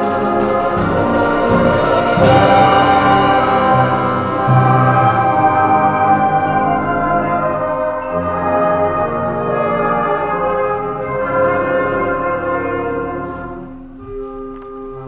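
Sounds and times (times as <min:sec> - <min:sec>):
high ringing notes: 0:00.0 - 0:12.9
concert band playing chords: 0:00.0 - 0:14.4.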